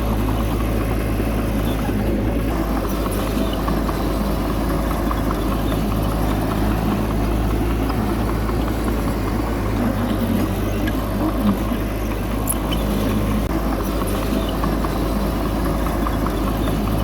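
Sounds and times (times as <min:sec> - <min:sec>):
bulldozer engine running: 0:00.0 - 0:17.0.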